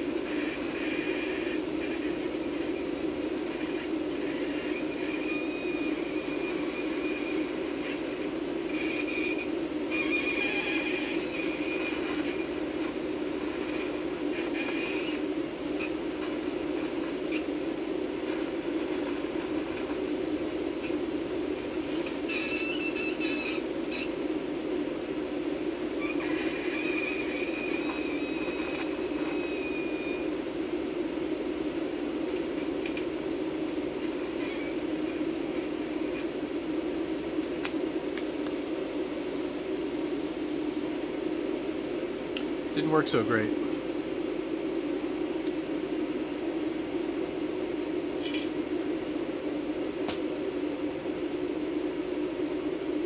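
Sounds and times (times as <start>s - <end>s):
faint high whine: 0.0s - 53.0s
welding arc hum and hiss: 0.0s - 53.0s.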